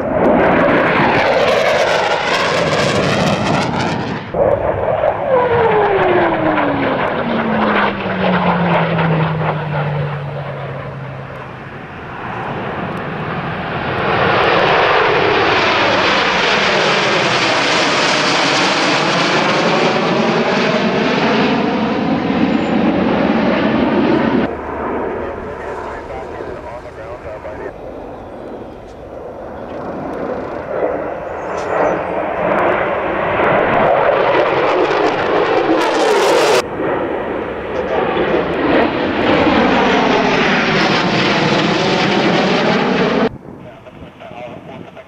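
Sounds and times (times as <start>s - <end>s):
jet engine whine falling in pitch: 0.0s - 45.0s
jets flying past: 0.0s - 45.0s.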